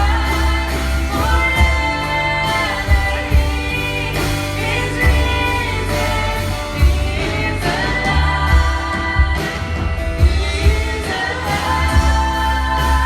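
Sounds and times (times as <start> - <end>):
bass: 0.0 - 13.0
congregation singing: 0.0 - 13.0
drums: 0.0 - 13.0.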